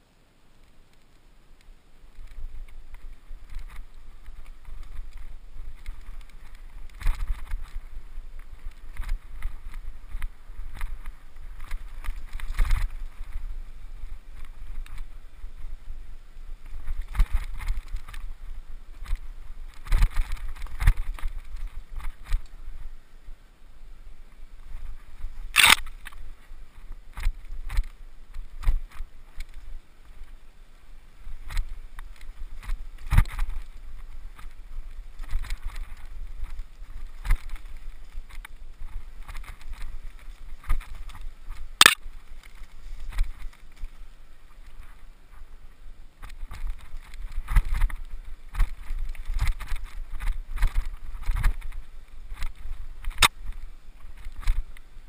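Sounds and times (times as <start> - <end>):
bike tyres rolling rumble: 0.0 - 55.0.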